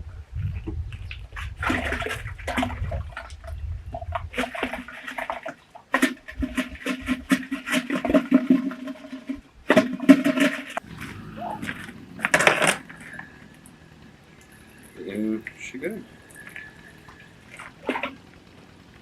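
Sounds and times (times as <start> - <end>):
water splashing into a container: 0.9 - 19.0.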